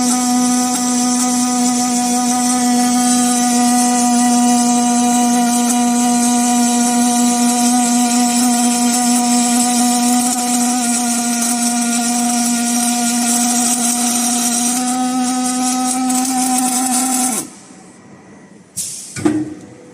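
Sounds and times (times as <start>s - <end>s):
welding machine humming and hissing: 0.0s - 18.0s.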